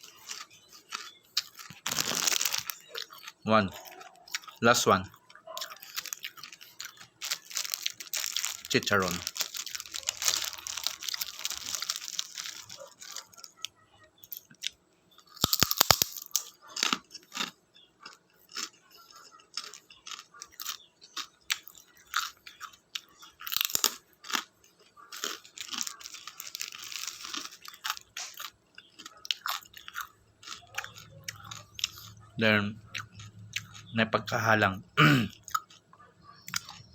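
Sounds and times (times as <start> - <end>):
crunchy pork rinds being chewed: 0.0 - 36.9.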